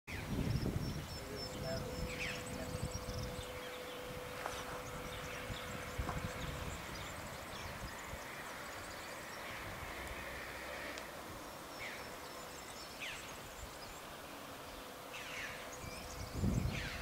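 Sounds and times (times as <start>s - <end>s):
bird chirps: 0.1s - 9.7s, 11.6s - 17.0s
insect drone: 0.2s - 17.0s.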